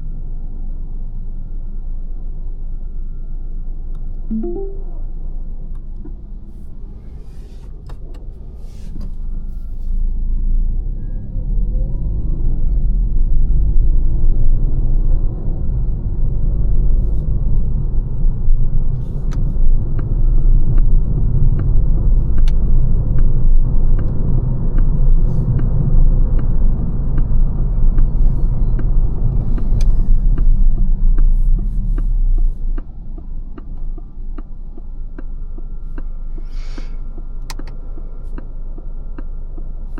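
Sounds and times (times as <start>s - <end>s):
car road and tyre rumble: 6.4s - 39.9s.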